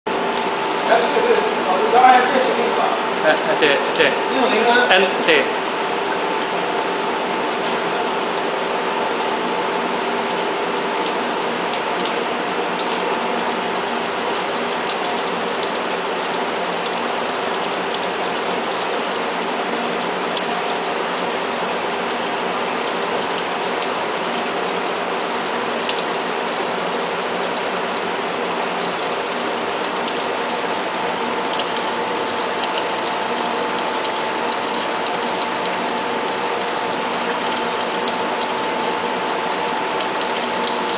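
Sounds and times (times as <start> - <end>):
machine crackling and humming: 0.1 - 40.9.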